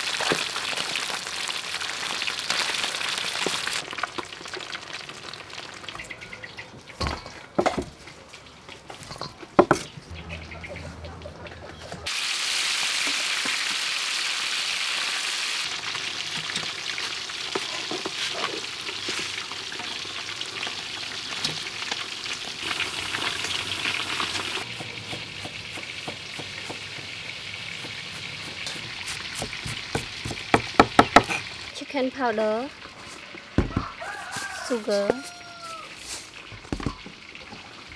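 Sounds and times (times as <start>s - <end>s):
fish deep-frying in oil: 0.0s - 7.2s, 12.0s - 37.9s.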